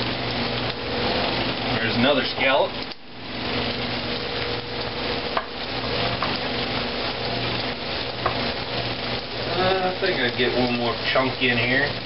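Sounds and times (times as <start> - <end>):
fish frying in hot oil: 0.0 - 12.0
oil popping: 0.0 - 12.0.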